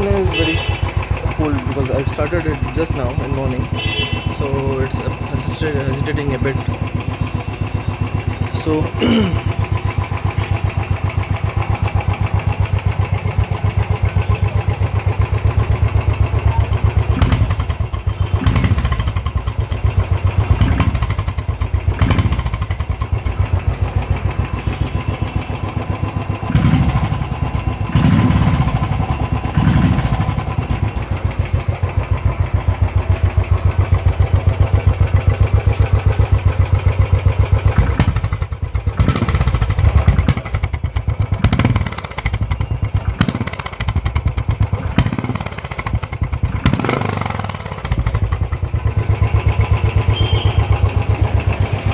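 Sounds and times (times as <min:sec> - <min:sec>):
motorcycle engine idling: 0:00.0 - 0:51.9.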